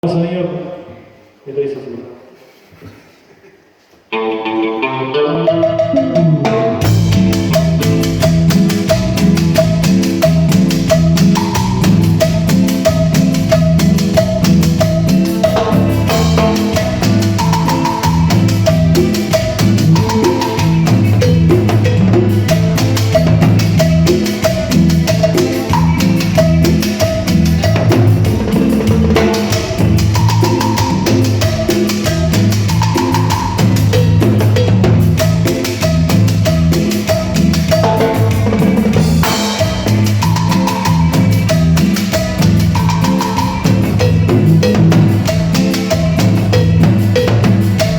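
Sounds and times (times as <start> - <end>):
bass line: 4.4 - 47.9
repeating melodic figure: 4.4 - 47.9
drum kit: 5.3 - 47.9
percussion: 5.4 - 47.9.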